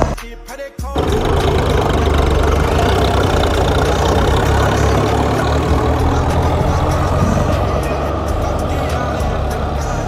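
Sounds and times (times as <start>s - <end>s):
tractor diesel engine under load: 1.0s - 10.0s.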